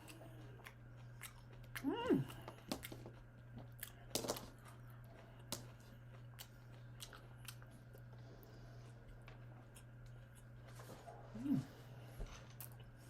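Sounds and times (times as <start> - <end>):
person chewing: 0.0 - 11.2
low steady hum: 0.0 - 13.0.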